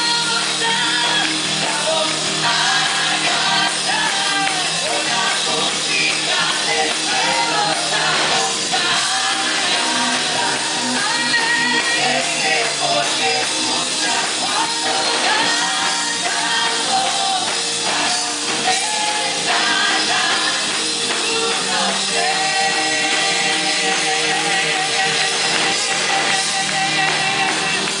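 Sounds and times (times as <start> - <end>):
man and woman singing: 0.0 - 28.0.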